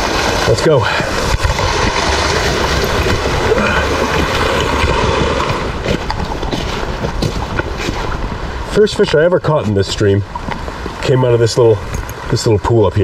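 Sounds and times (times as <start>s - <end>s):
brook running over rocks: 0.0s - 13.0s.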